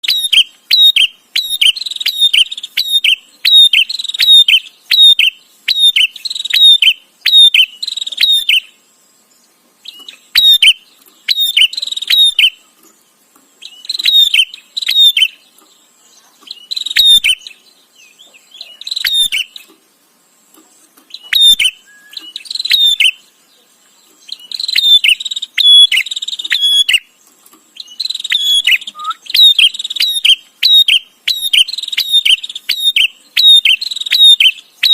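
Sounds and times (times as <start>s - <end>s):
bird chattering calls: 0.0s - 8.8s, 9.8s - 12.8s, 13.6s - 19.7s, 21.0s - 23.4s, 24.1s - 27.1s, 27.8s - 34.9s.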